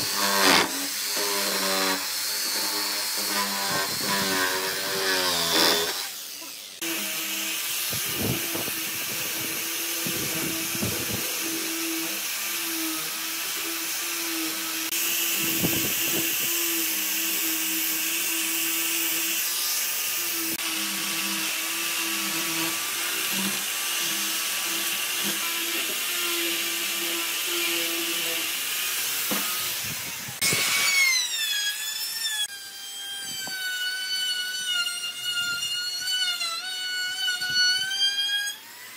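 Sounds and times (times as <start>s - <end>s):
rotary tool sanding wood: 0.0s - 38.9s
router whining as it cuts: 0.0s - 38.9s.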